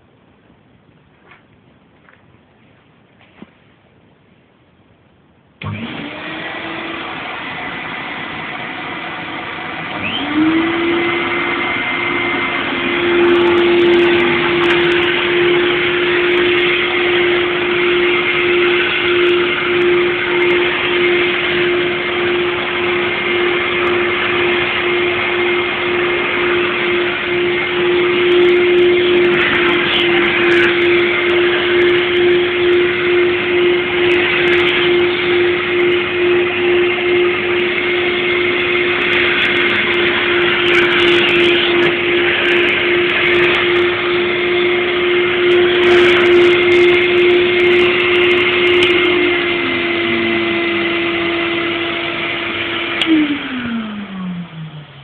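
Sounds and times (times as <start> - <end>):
vacuum cleaner switch: 5.6 - 54.6
vacuum cleaner motor running: 5.6 - 55.0.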